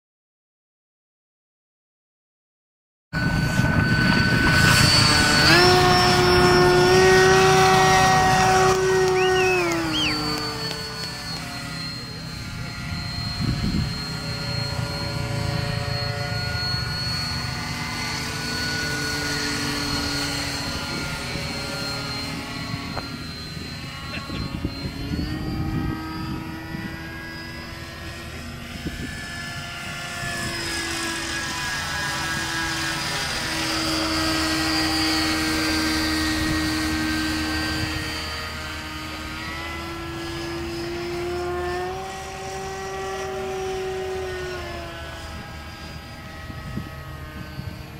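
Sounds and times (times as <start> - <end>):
gyrocopter engine and propeller drone: 3.2 - 47.9.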